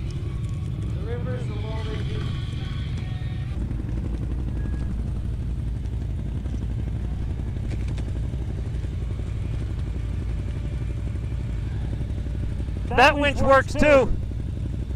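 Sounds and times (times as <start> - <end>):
atv engine running: 0.0 - 14.9.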